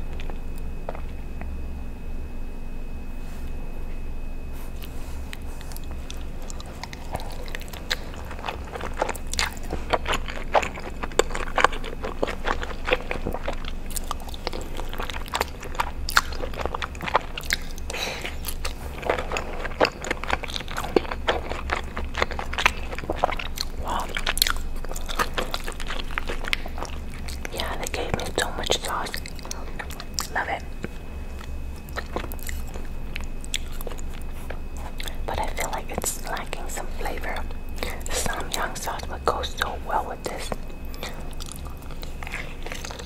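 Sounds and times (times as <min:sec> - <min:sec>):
close chewing mouth sounds: 0:00.0 - 0:01.6, 0:04.6 - 0:43.0.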